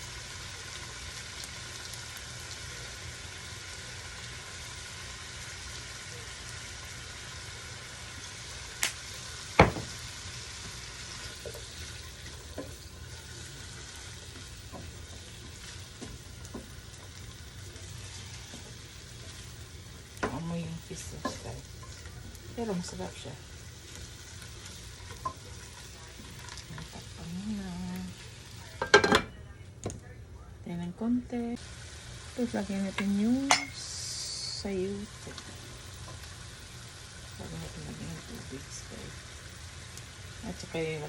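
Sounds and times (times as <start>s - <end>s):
chicken sizzling in a pot: 0.0s - 41.0s.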